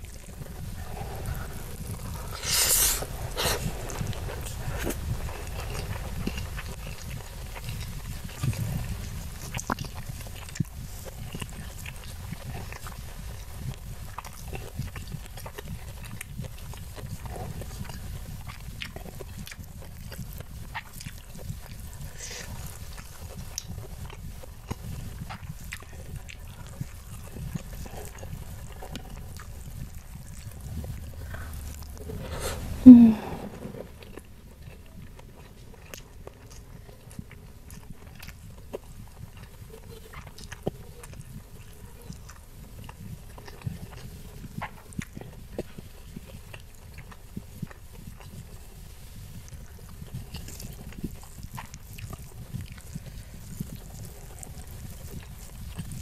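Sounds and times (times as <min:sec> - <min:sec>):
wet chewing and mouth clicks: 0:00.0 - 0:56.0.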